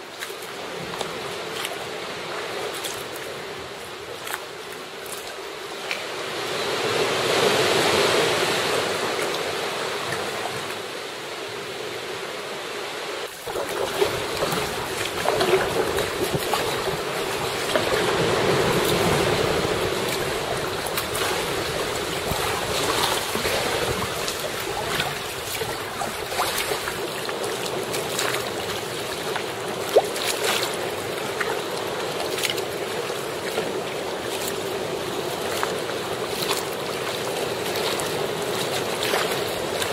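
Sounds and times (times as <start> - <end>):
paddle splashes: 0.0 - 39.9
water sloshing around kayaks: 0.0 - 39.9.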